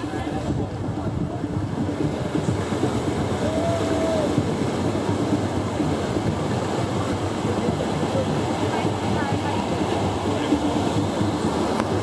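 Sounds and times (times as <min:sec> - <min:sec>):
ocean surf rumbling: 0:00.0 - 0:12.0
wind noise on microphone: 0:00.0 - 0:12.0.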